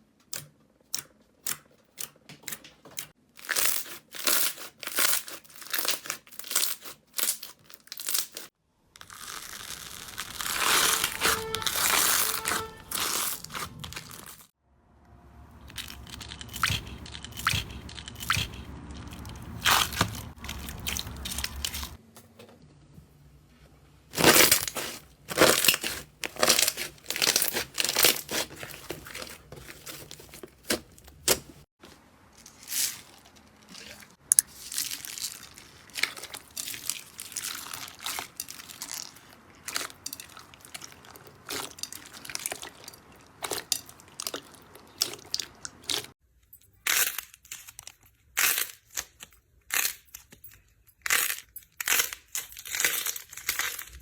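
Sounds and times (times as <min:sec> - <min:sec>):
slime crackling and squishing: 0:03.4 - 0:14.5, 0:15.6 - 0:22.0, 0:24.1 - 0:31.4, 0:32.2 - 0:46.2, 0:46.8 - 0:54.0.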